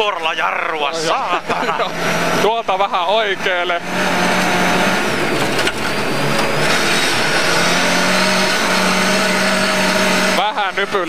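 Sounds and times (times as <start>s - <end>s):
car engine running under load: 0.0s - 11.0s.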